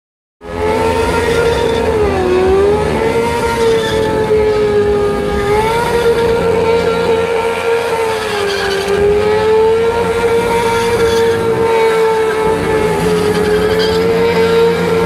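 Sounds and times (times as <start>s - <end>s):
motorcycle engine at high revs: 0.4s - 15.0s.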